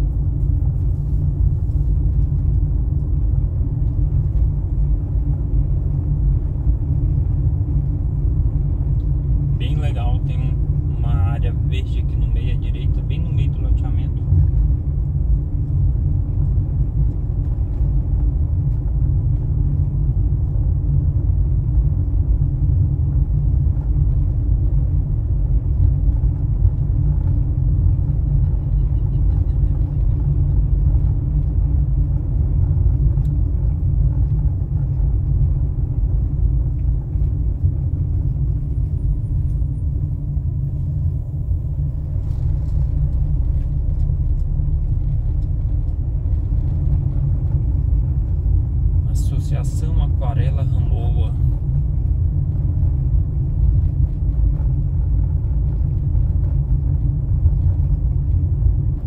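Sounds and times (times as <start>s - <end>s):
car driving interior rumble: 0.0s - 59.0s.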